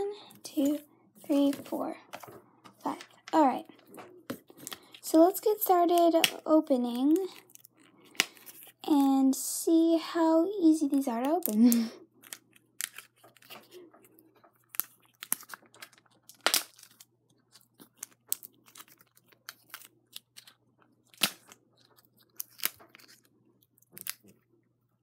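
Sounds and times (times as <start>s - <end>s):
plastic clicks and crinkles: 0.4s - 8.9s, 11.1s - 24.5s.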